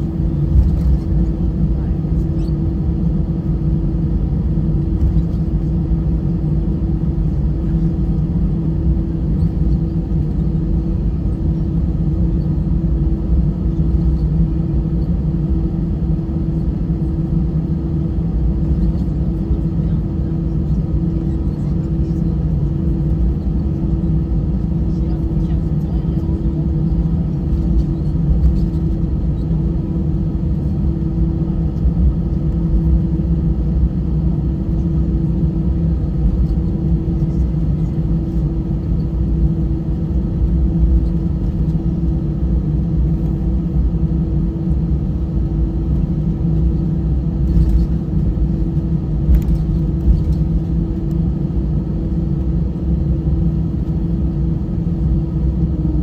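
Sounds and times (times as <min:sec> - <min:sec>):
airplane cabin rumble: 0:00.0 - 0:56.0
steady hum: 0:00.0 - 0:56.0.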